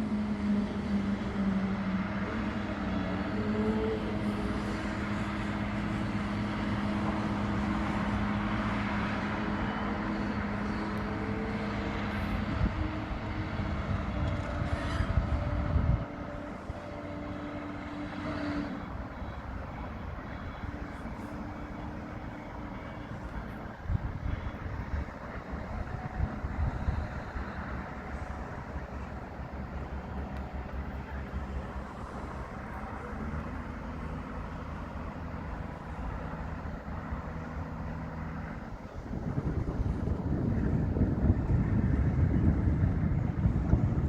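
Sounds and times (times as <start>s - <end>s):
heavy machine engine running: 0.0s - 44.0s.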